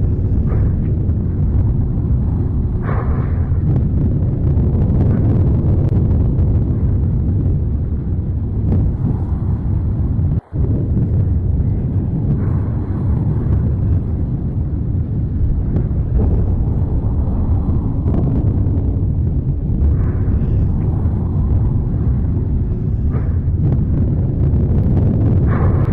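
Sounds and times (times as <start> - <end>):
volcano deep rumble: 0.0 - 25.9.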